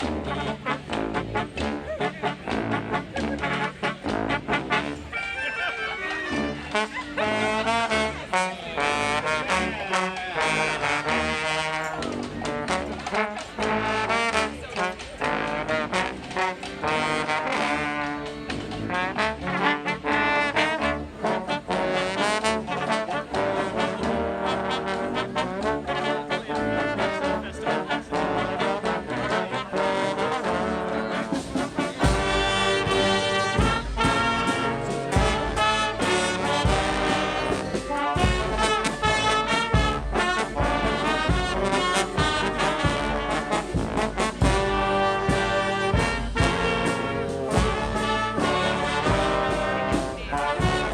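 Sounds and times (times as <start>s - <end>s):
brass band playing upbeat tune: 0.0s - 50.9s.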